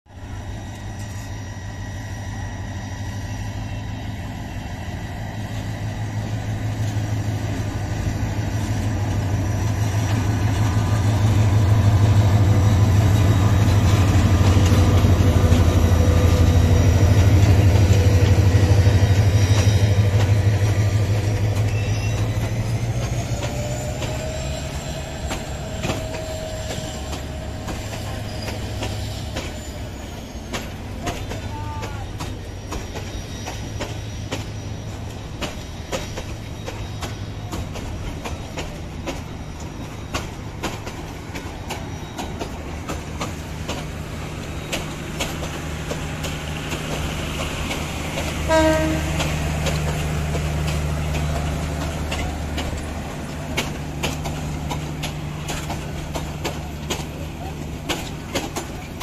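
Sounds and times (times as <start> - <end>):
locomotive engine throbbing: 0.1 - 59.0
thin rising squeal: 0.2 - 56.8
train wheels clicking over rail joints: 2.6 - 59.0.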